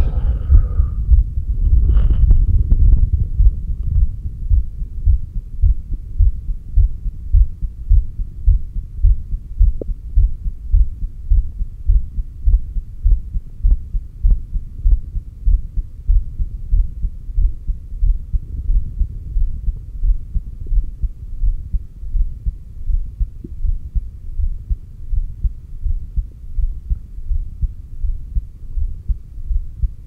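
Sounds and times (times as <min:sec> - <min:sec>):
muffled heartbeat: 0:00.0 - 0:30.0.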